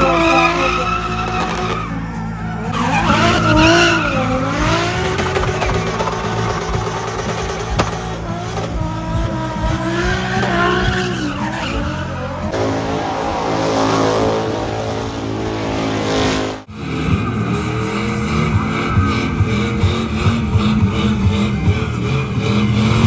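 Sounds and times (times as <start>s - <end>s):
car engine revving: 0.0s - 23.0s
tyres squealing: 0.0s - 23.0s.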